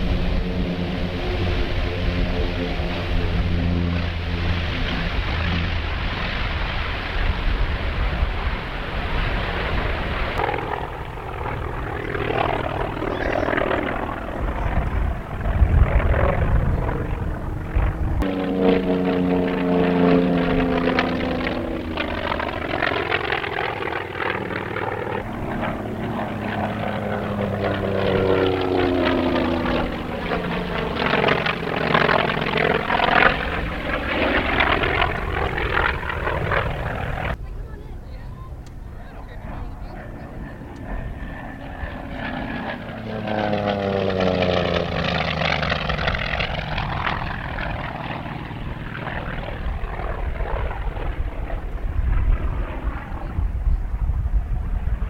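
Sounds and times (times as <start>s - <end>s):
propeller airplane engine: 0.0s - 55.0s.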